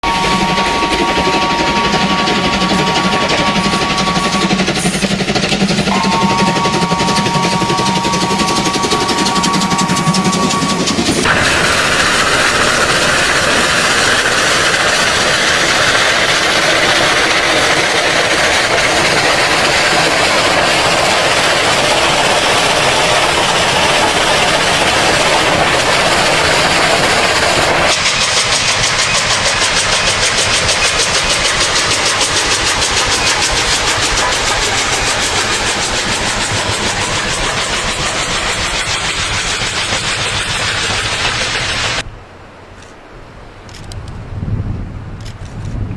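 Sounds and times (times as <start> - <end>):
fast even pulsing: 0.0 - 42.0
train rushing on rails: 0.0 - 45.7.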